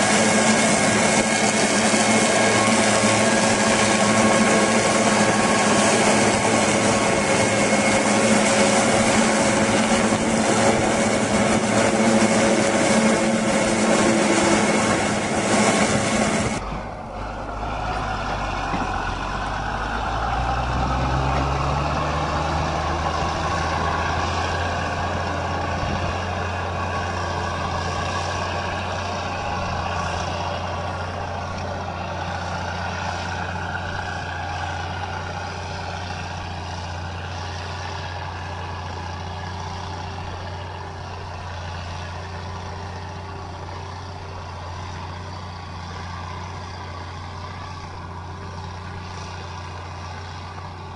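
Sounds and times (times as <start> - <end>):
heavy engine running: 0.0 - 50.9.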